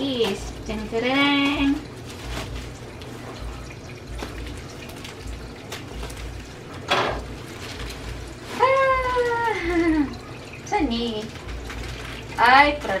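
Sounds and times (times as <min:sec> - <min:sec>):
plastic rustle: 0:00.2 - 0:13.0
plastic bag crinkling: 0:01.4 - 0:13.0.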